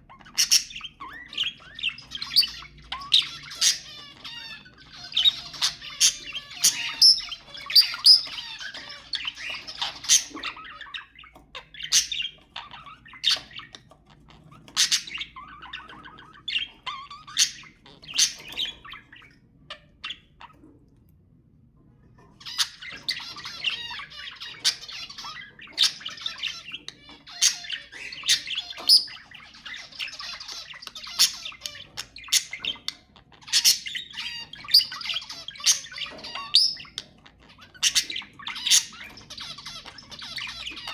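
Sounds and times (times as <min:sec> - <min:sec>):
budgerigars warbling and chattering: 0:00.0 - 0:21.0, 0:22.0 - 0:40.9.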